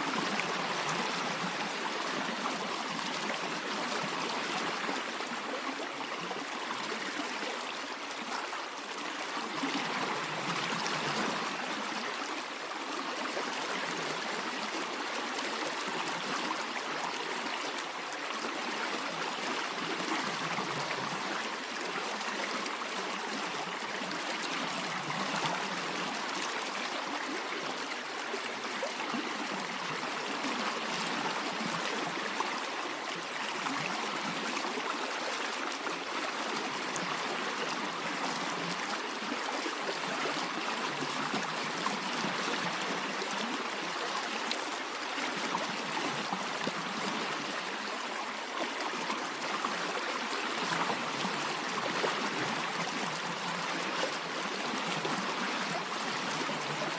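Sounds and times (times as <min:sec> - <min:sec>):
stream running: 0:00.0 - 0:56.9.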